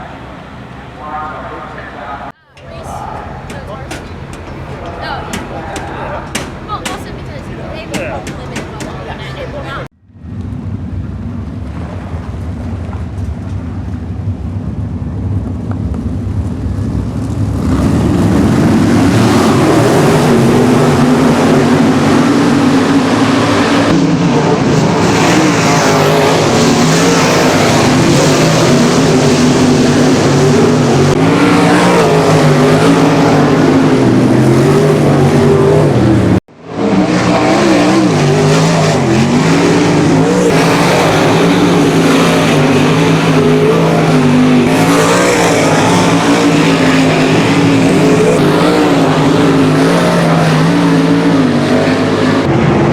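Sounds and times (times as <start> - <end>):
racing car engines: 0.0 - 52.9.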